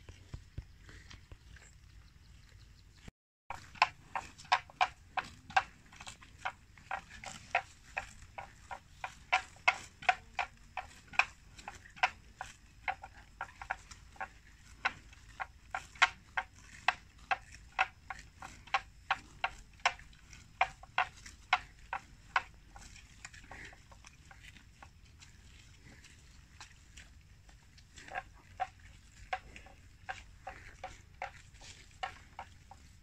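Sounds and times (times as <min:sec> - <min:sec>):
water buffalo tearing grass: 0:03.5 - 0:33.0.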